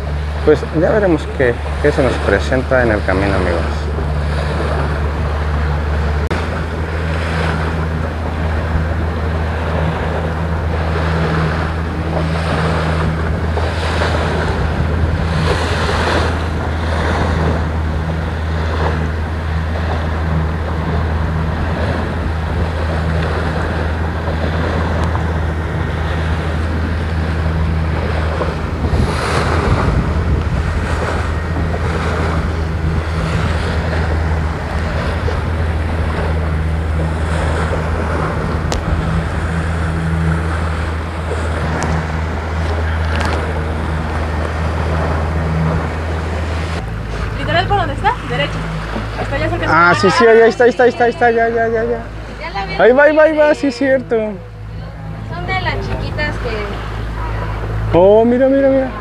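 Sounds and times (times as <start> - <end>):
motorboat engine droning: 0.0 - 59.0
water rushing against hull: 0.0 - 59.0
wind buffeting microphone: 0.0 - 59.0.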